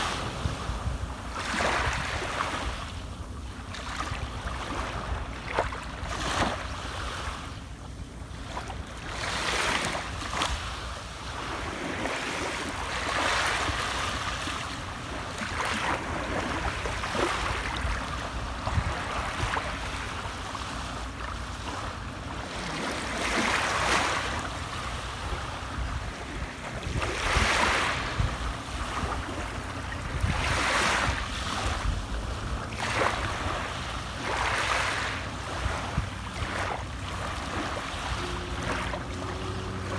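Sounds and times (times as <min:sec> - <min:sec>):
sea waves breaking: 0:00.0 - 0:07.5, 0:08.3 - 0:39.9.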